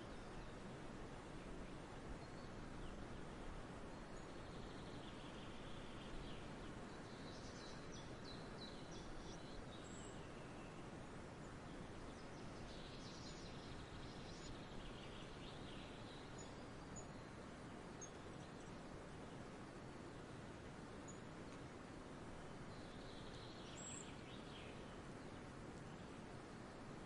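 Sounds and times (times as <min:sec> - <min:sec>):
songbirds singing: 0:00.0 - 0:27.0
steady background hiss: 0:00.0 - 0:27.0.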